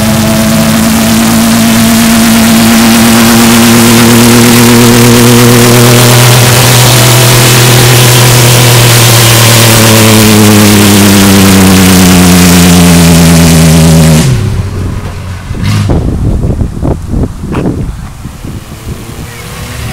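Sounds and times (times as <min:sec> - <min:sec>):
truck engine revving high: 0:00.0 - 0:19.9
tyres spinning on asphalt: 0:00.0 - 0:19.9.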